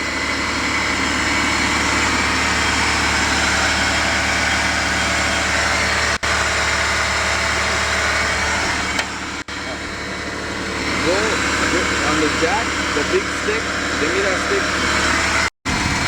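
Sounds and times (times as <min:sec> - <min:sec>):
four-cylinder engine running: 0:00.0 - 0:16.0.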